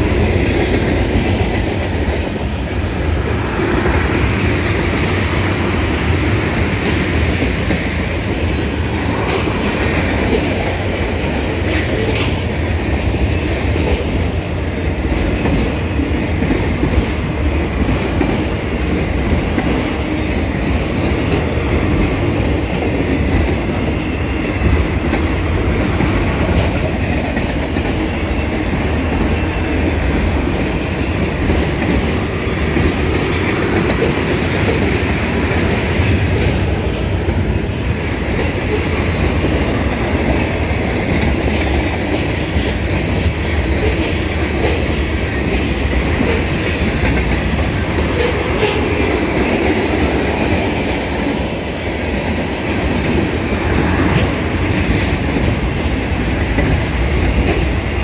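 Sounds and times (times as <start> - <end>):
clickety-clack of steel wheels: 0.0 - 58.0
freight train rumbling past: 0.0 - 58.0.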